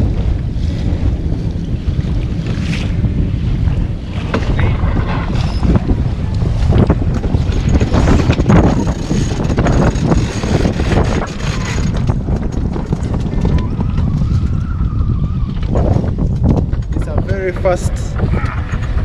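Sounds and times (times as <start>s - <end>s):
sails flapping: 0.0s - 19.0s
wind buffeting microphone: 0.0s - 19.0s.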